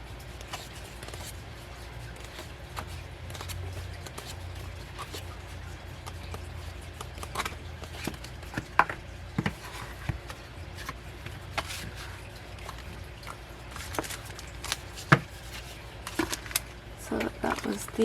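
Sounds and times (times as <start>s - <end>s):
low steady hum: 0.0s - 18.0s
paper and card handling: 0.1s - 18.0s.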